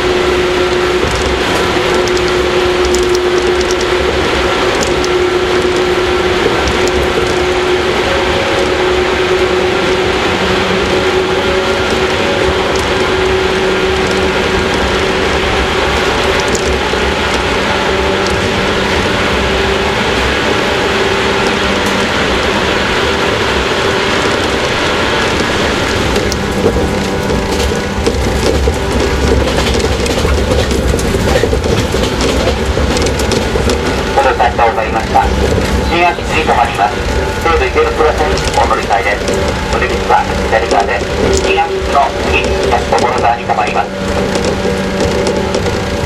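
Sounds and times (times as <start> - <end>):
train wheels rumbling on rail: 0.0 - 46.0
track clicks: 0.6 - 46.0.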